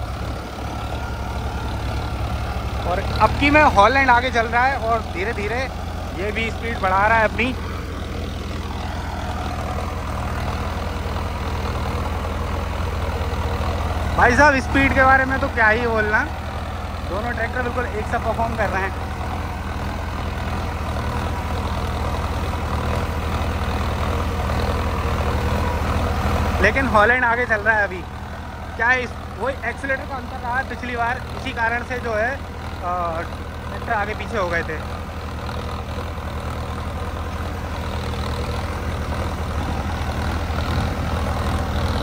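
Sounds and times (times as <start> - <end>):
tractor engines droning: 0.0 - 42.0.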